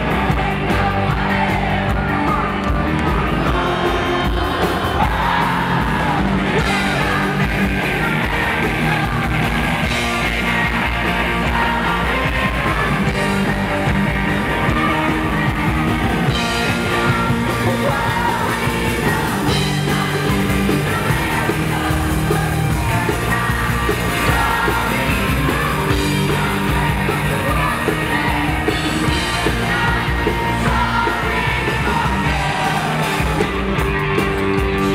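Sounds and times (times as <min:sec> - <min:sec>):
live rock band playing: 0:00.0 - 0:34.9.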